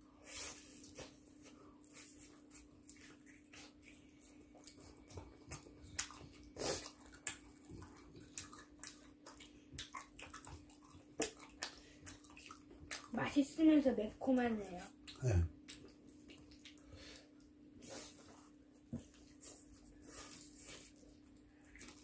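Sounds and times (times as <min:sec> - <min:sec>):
faint steady hum: 0:00.0 - 0:22.0
people chewing chicken: 0:00.2 - 0:13.2, 0:15.0 - 0:22.0.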